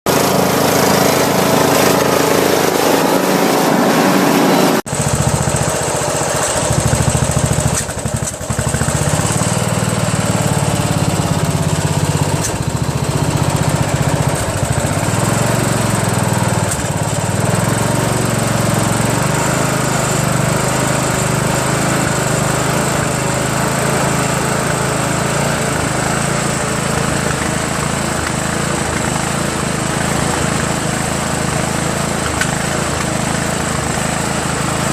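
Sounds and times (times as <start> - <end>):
lawn tractor engine running: 0.1 - 34.9.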